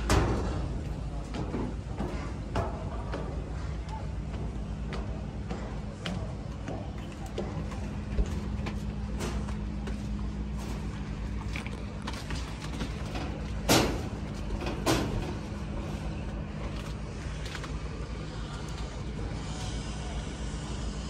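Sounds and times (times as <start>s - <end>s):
low outdoor hum and rumble: 0.0s - 21.0s.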